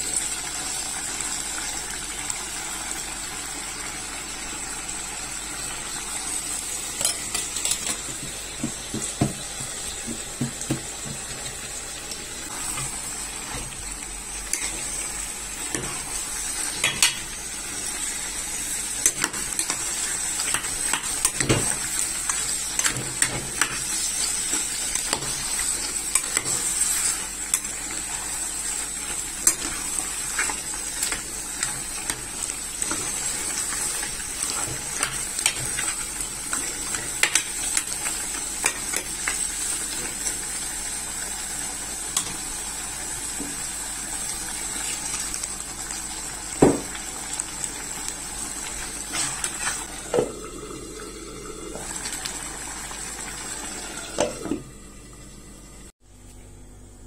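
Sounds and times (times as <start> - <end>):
soup sizzling in a pot: 0.0 - 56.0.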